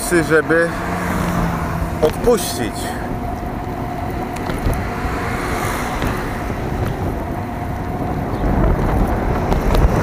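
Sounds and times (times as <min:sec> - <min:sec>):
wind buffeting microphone: 0:00.0 - 0:10.0
rolling noise: 0:01.7 - 0:10.0.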